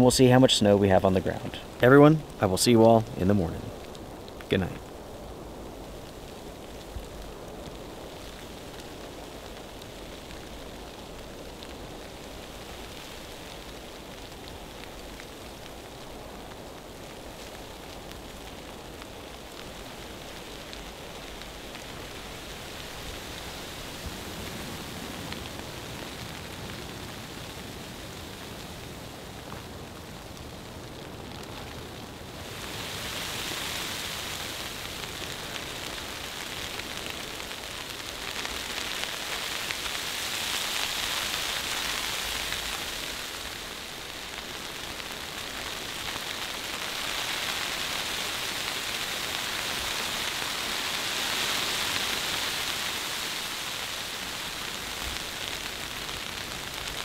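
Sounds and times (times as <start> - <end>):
snow hissing on a tarp: 3.6 - 57.0.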